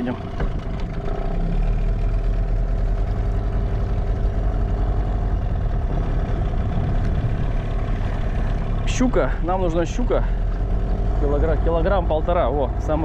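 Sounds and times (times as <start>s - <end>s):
outboard motor humming: 0.0s - 13.0s.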